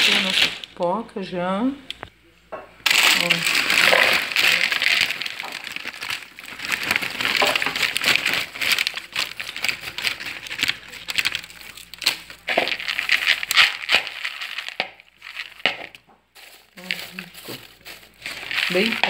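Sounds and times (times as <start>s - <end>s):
hand rummaging through popcorn: 0.0s - 0.7s, 2.8s - 19.0s
paper bag crinkling: 0.0s - 0.7s, 2.8s - 19.0s.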